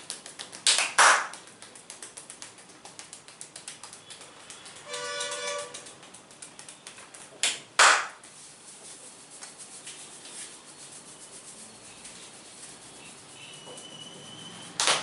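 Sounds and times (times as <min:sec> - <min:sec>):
fingers rustling through hair: 0:00.0 - 0:07.5, 0:08.2 - 0:13.9.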